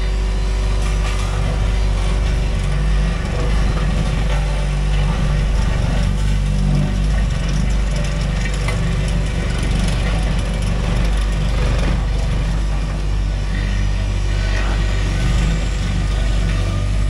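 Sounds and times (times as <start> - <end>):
diesel engine running: 0.0 - 17.0
vibratory roller low rumble: 0.0 - 17.0.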